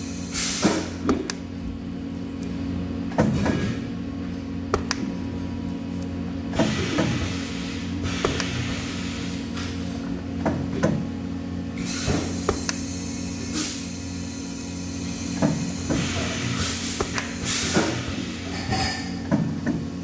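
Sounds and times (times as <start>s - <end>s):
workshop machine hum: 0.0s - 20.0s.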